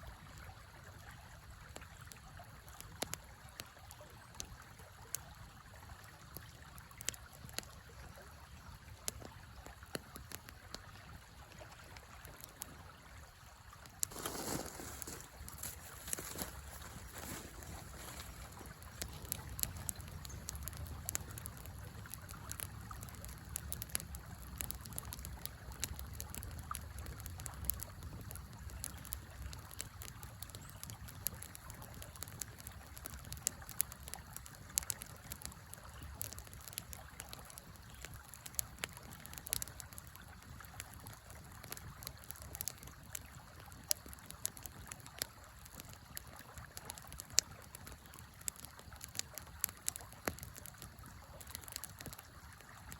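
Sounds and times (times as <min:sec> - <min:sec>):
wood fire crackling and popping: 0:00.3 - 0:13.0, 0:13.6 - 0:52.9.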